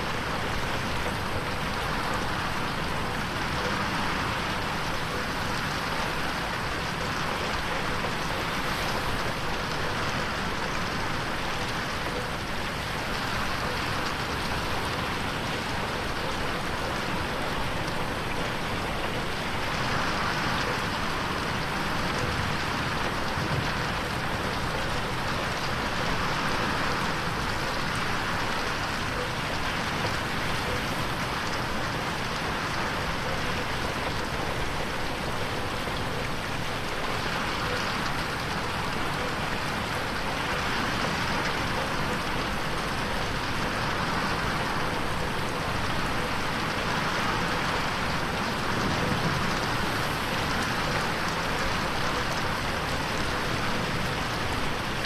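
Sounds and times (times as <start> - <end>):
rain on window glass: 0.0 - 55.0.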